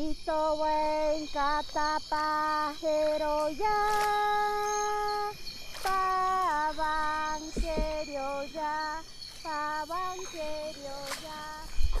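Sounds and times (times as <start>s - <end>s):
high-pitched voice singing: 0.0s - 12.0s.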